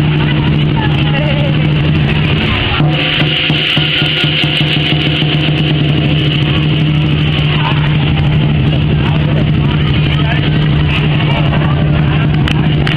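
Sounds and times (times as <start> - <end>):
loud engine drone: 0.0 - 12.9.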